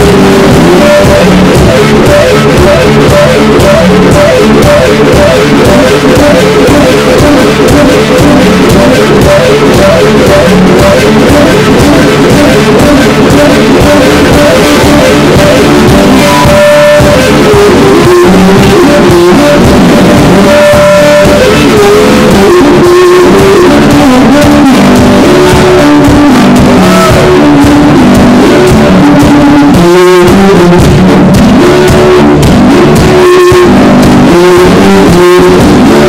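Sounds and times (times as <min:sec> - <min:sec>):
drum beat: 0:00.0 - 0:36.0
electric guitar playing: 0:00.0 - 0:36.0.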